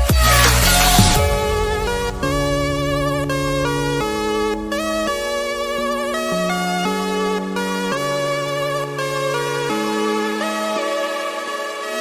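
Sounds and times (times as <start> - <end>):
synthesizer chords: 0.0 - 11.2.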